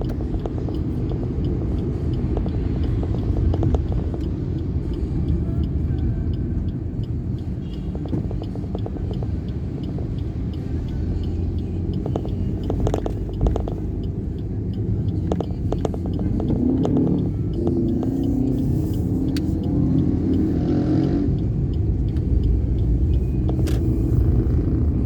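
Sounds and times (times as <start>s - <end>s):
faint regular ticking: 0.0s - 25.0s
sharp clicks: 0.0s - 25.0s
vehicle engine and road noise: 0.0s - 25.0s.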